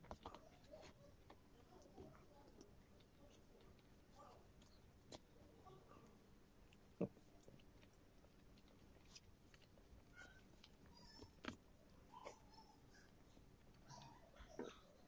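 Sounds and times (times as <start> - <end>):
faint chewing and mouth smacks: 0.0 - 15.0.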